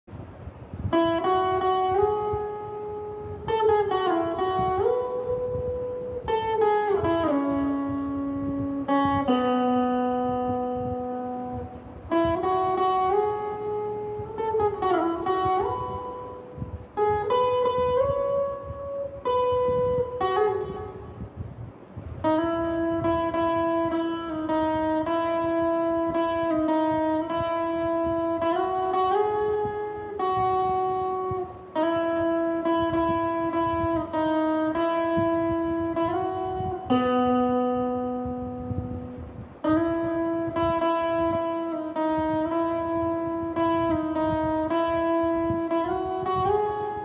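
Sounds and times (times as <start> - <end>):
electric guitar slow melody: 0.1 - 47.0.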